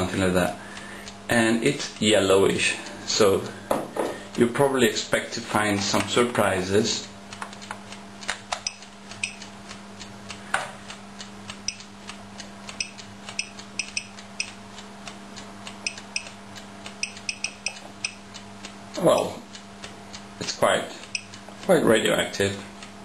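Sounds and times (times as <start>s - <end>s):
geiger counter clicking: 0.0s - 3.5s, 4.3s - 23.0s
faint steady hum: 0.0s - 23.0s.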